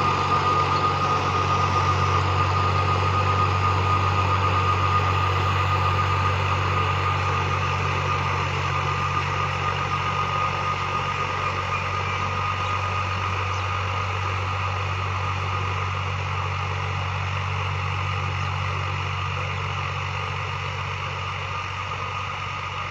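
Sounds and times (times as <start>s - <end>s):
high whine: 0.0s - 22.9s
tractor engine running: 0.0s - 22.9s.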